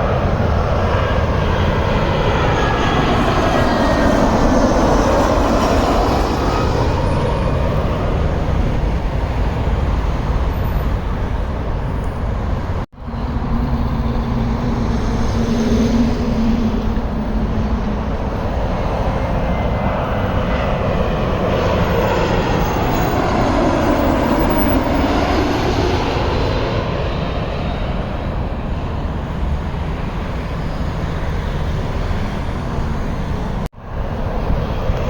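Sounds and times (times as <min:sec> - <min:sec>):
jet airliner passing overhead: 0:00.0 - 0:35.0.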